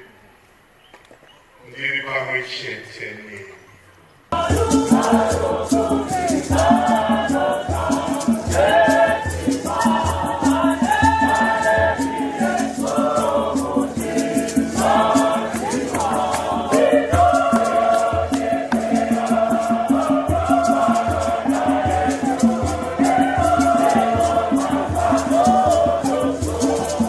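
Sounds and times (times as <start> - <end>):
choir singing: 4.3 - 27.0
fast percussion beat: 4.4 - 27.0.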